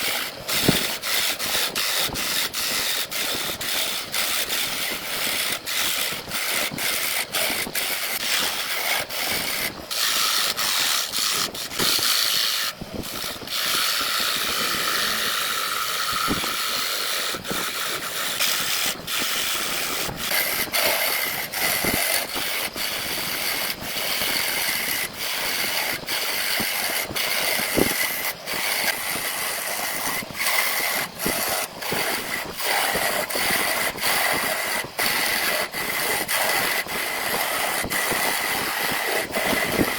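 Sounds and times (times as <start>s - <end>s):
woodworking tool rasping: 0.0s - 39.9s.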